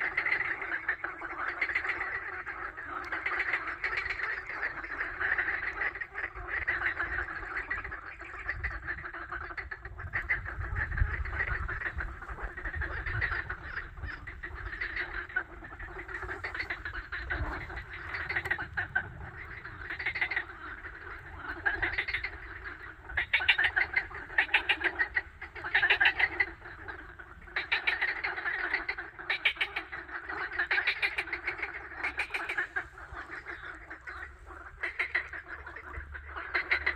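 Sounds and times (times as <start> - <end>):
ducks quacking: 0.0 - 36.9.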